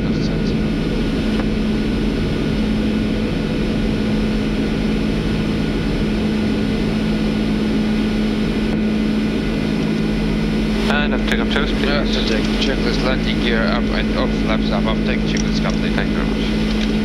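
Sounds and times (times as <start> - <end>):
rush of airflow and engine noise: 0.0 - 17.0
steady low hum: 0.0 - 17.0.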